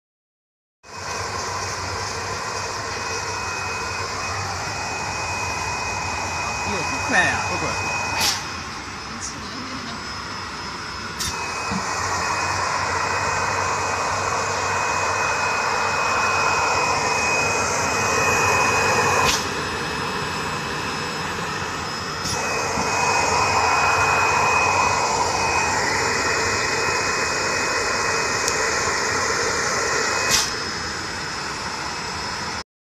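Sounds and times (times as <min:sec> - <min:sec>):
suction motor rushing: 0:00.9 - 0:32.6
thin high whine: 0:00.9 - 0:32.6.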